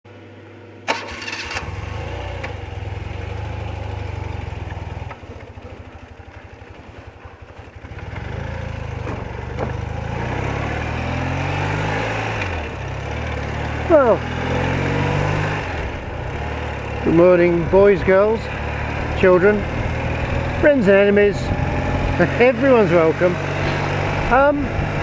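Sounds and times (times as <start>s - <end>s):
motorcycle engine idling and revving: 0.9s - 25.0s.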